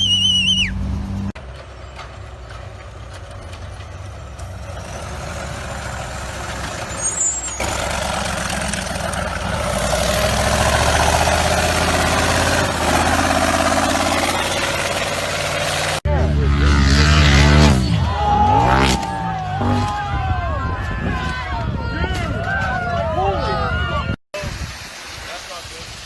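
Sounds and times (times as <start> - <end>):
off-road vehicle engine under load: 0.0 - 21.1.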